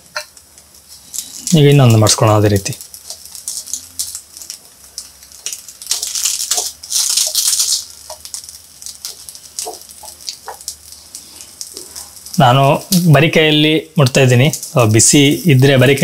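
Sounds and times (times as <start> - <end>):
leaves sizzling on a hot pan: 0.0 - 16.0.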